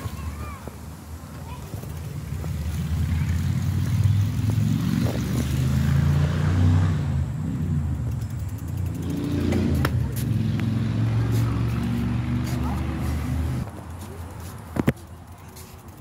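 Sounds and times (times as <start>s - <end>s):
bicycle tyres rolling on concrete: 0.0s - 16.0s.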